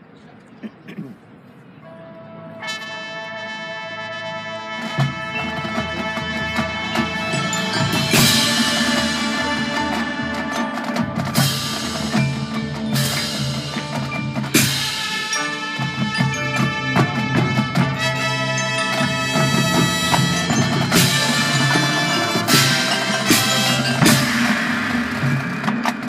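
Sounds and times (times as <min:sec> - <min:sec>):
marching band playing: 0:02.6 - 0:26.0.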